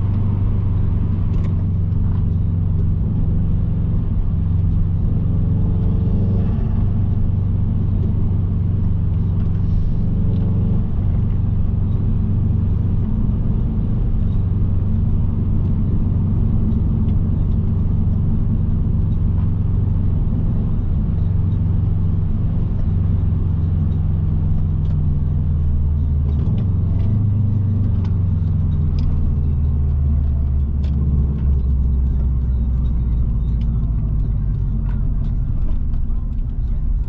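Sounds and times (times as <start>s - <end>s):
car engine drone: 0.0s - 37.0s
road noise inside car: 0.0s - 37.0s.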